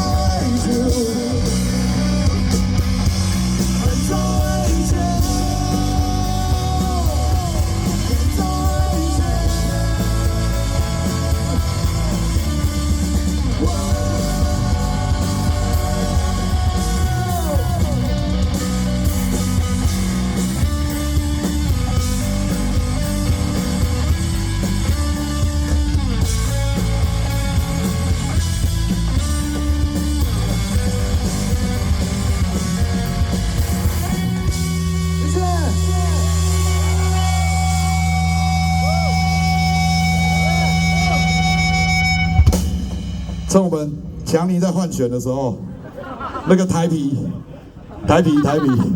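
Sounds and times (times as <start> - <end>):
electric guitars: 0.0 - 43.5
bass guitar: 0.0 - 46.4
drums: 0.0 - 48.9.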